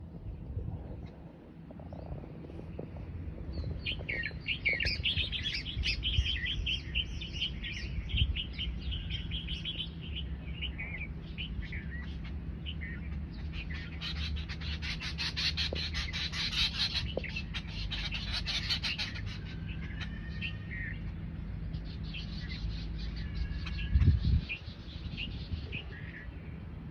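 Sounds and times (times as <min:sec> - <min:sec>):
low background rumble: 0:00.0 - 0:26.9
small birds chirping: 0:00.1 - 0:26.9.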